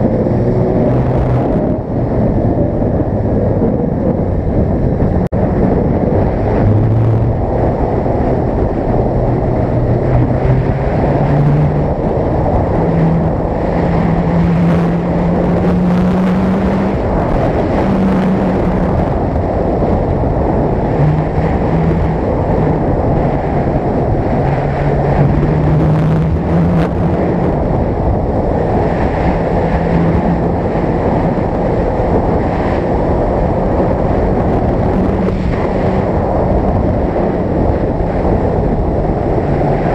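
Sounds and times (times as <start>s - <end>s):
motorcycle engine accelerating: 0.0s - 39.9s
wind rushing on microphone: 0.0s - 39.9s.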